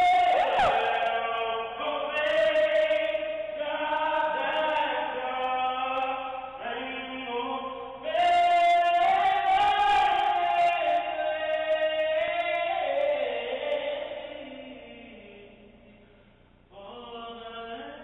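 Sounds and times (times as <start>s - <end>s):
man singing unaccompanied: 0.0s - 15.8s, 16.7s - 18.0s.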